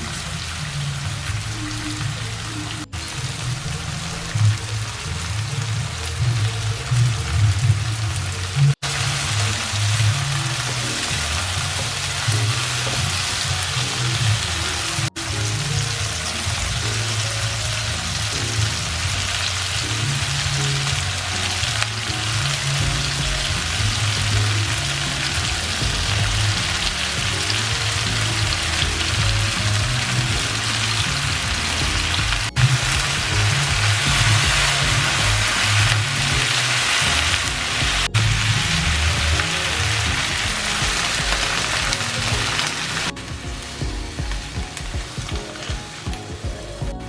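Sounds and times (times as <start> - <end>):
background music with bass line: 0.0 - 47.0.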